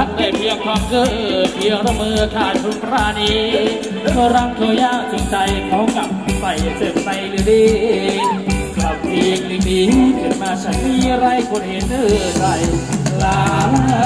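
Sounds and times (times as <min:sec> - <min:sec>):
live band dance music: 0:00.0 - 0:14.0
steady drum beat: 0:00.0 - 0:14.0.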